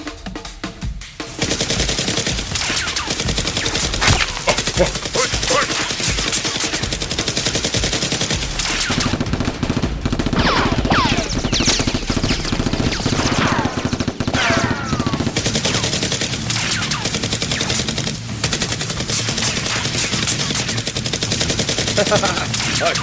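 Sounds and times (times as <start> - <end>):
rapid automatic gunfire: 1.3 - 23.0.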